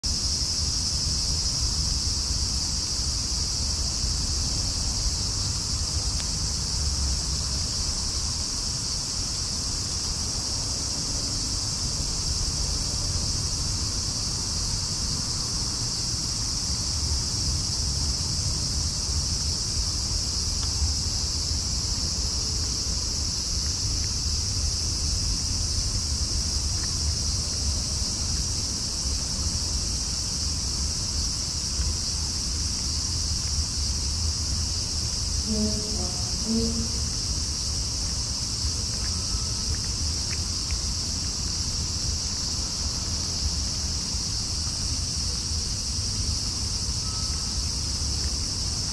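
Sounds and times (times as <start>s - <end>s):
crickets and insects chirping: 0.0s - 48.9s.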